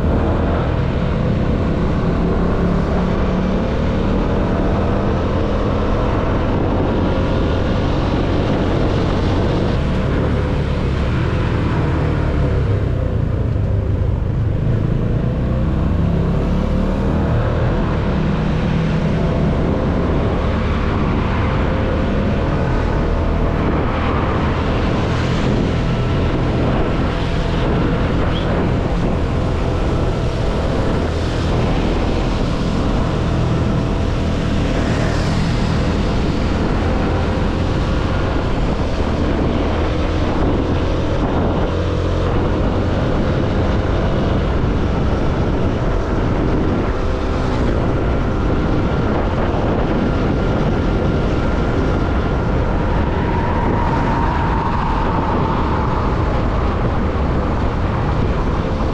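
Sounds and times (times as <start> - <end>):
wind noise on microphone: 0.0 - 58.9.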